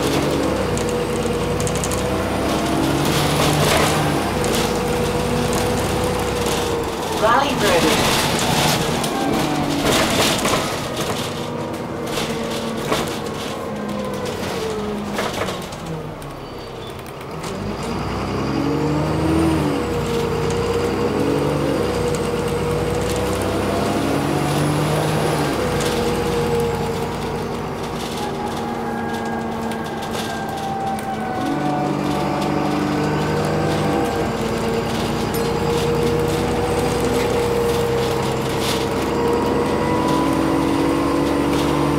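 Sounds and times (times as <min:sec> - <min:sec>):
bus diesel engine: 0:00.0 - 0:41.9.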